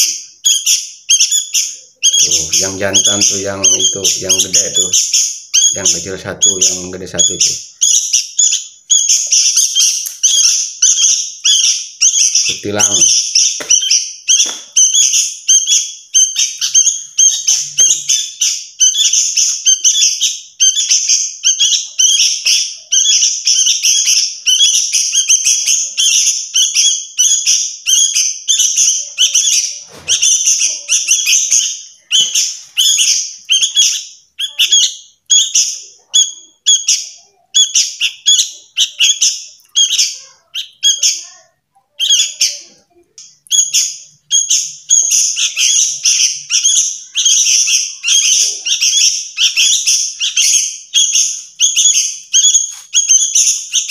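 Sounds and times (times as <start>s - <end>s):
young birds begging calls: 0.0s - 53.9s.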